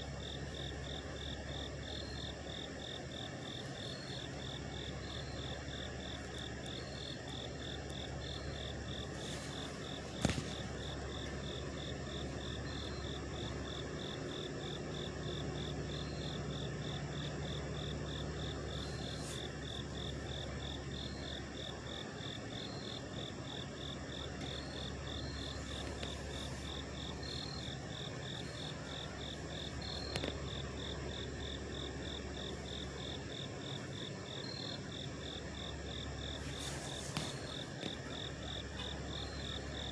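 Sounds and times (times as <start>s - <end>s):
night insects chirping: 0.0s - 39.9s
trucks idling: 0.0s - 39.9s.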